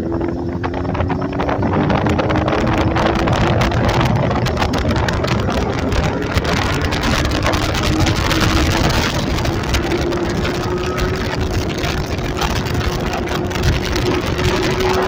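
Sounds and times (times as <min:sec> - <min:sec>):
motorcycle engine running: 0:00.0 - 0:15.0
rushing noise with crackles: 0:00.0 - 0:15.0.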